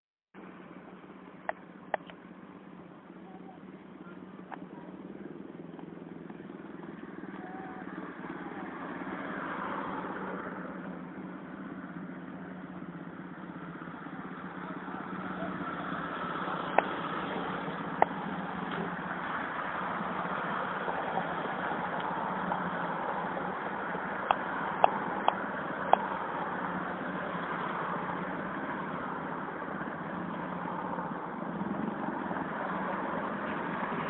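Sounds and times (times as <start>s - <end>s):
traffic engines passing: 0.4s - 34.0s.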